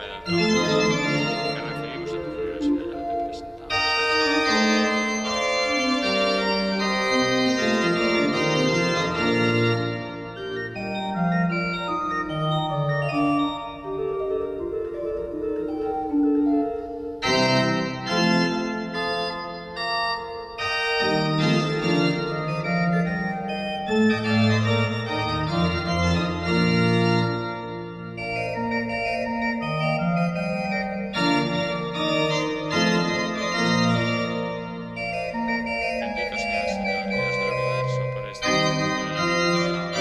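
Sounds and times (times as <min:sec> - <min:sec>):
organ playing sustained chords: 0:00.0 - 0:40.0.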